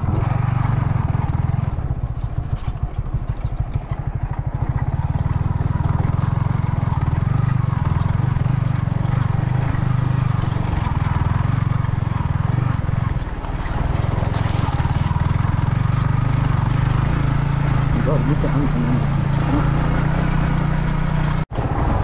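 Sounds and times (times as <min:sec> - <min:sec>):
motorcycle engine running: 0:00.0 - 0:22.0
motorcycle riding over rocky road: 0:00.0 - 0:22.0.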